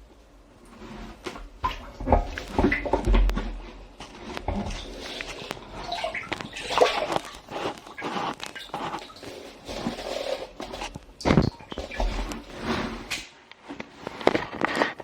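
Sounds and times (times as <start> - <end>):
water sloshing and splashing: 0.6 - 15.0.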